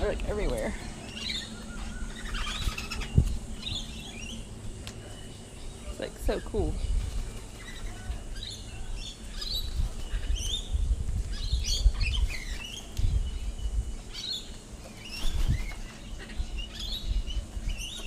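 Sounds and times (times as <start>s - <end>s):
birds chirping and squawking: 0.0s - 18.0s
low rumble of wind: 0.0s - 18.0s.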